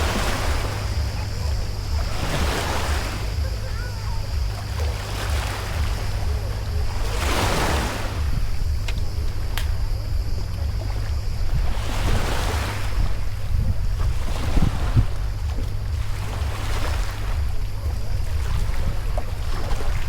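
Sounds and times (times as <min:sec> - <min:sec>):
water swishing: 0:00.0 - 0:20.0
wind buffeting microphone: 0:00.0 - 0:20.0.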